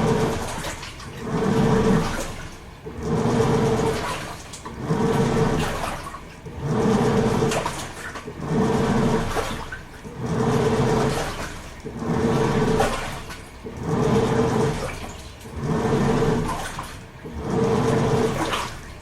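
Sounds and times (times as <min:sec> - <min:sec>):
washing machine motor hum: 0:00.0 - 0:19.0
water sloshing in tub: 0:00.0 - 0:19.0.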